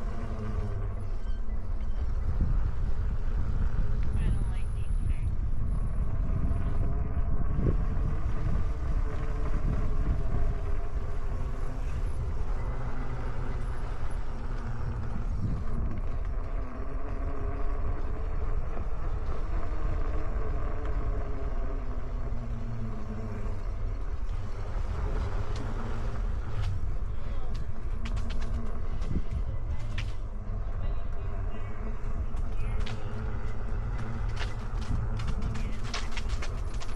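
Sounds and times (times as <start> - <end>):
electric motor whining: 0.0 - 36.9
wind rumble on microphone: 0.0 - 36.9.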